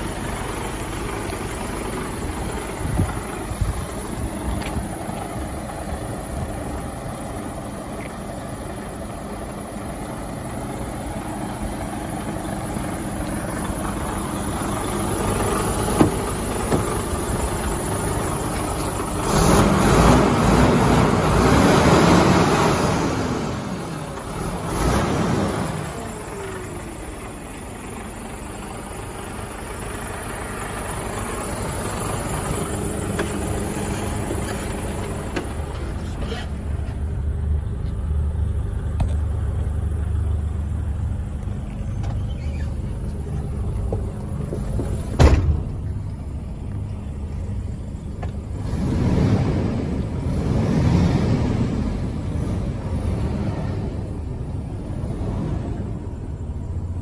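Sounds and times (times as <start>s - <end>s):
diesel truck engine idling: 0.0s - 50.6s, 51.4s - 57.0s.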